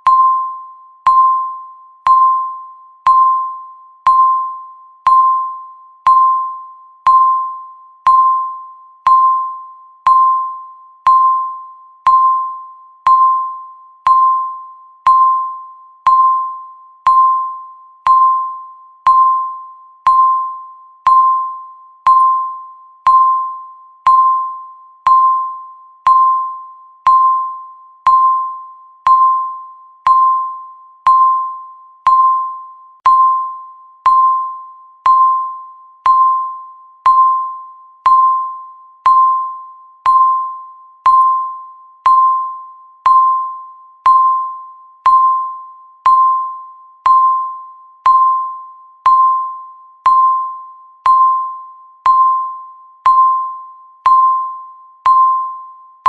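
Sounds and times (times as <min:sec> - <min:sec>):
timer beeps: 0:00.0 - 0:56.0.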